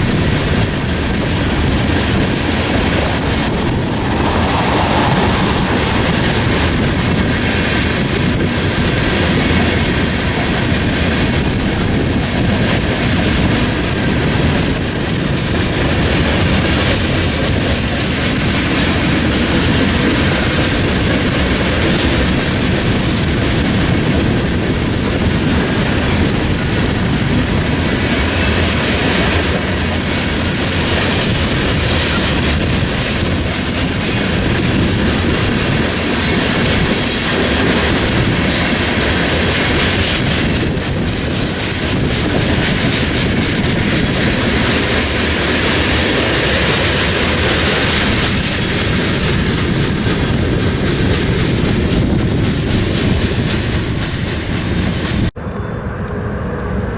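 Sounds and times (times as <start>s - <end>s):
train wheels clattering over rail joints: 0.0s - 56.9s.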